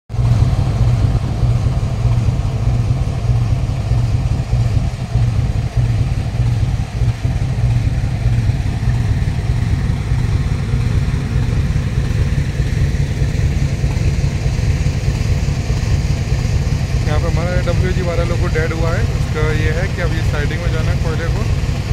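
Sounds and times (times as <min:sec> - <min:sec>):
locomotive engine rumbling: 0:00.1 - 0:21.9.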